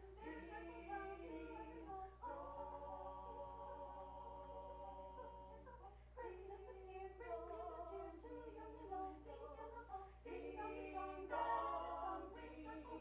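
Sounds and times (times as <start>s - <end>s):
group singing a cappella: 0.0s - 13.0s
low electrical hum: 0.0s - 13.0s.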